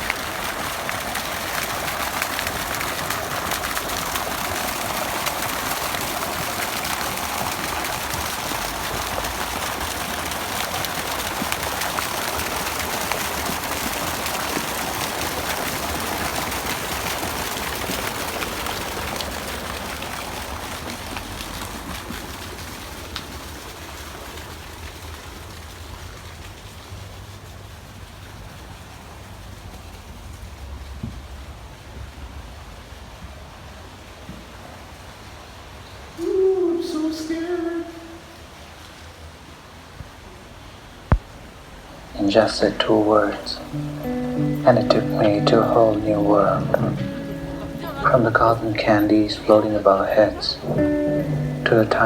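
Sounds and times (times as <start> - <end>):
water running and splashing: 0.0 - 31.5, 40.9 - 52.0.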